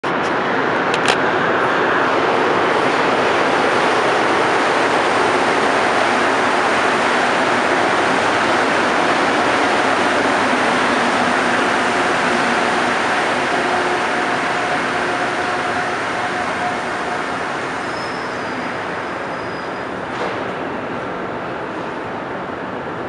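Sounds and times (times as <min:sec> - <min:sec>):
train rumbling: 0:00.0 - 0:23.0
train whining tone: 0:01.0 - 0:20.2.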